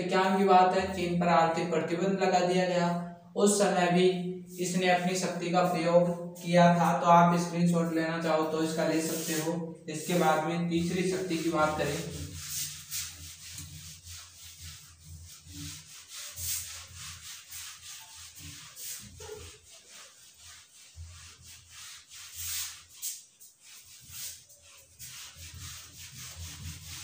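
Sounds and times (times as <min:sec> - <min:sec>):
eraser wiping whiteboard: 0:04.5 - 0:27.0.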